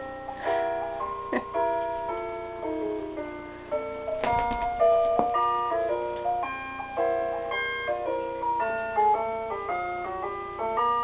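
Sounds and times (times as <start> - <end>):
music box melody: 0.0 - 11.0.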